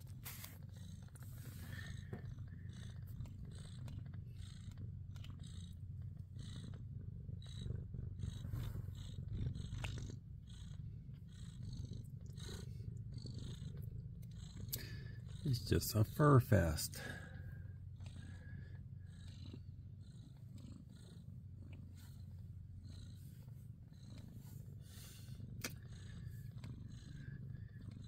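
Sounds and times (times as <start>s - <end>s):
soft ticks and rustles: 0.0s - 16.0s, 17.8s - 25.0s
cats purring: 0.0s - 28.0s.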